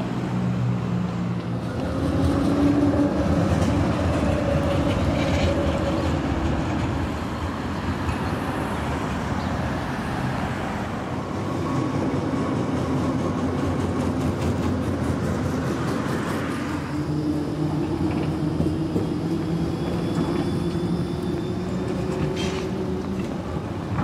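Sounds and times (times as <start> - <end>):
road traffic: 0.0 - 24.0
tram drive hum: 0.0 - 24.0
tram wheels rumbling on rail: 0.0 - 24.0.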